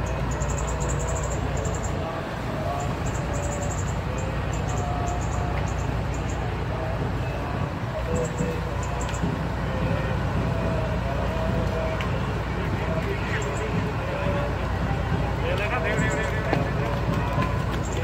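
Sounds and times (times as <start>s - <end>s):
faint voices: 0.0s - 18.0s.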